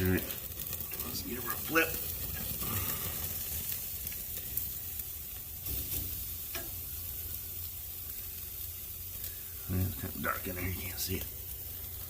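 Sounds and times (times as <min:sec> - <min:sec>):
steak sizzling on a grill: 0:00.0 - 0:12.0.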